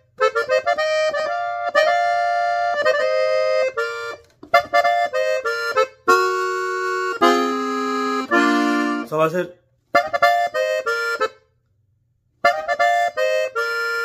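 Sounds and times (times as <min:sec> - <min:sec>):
button accordion melody: 0:00.0 - 0:14.0.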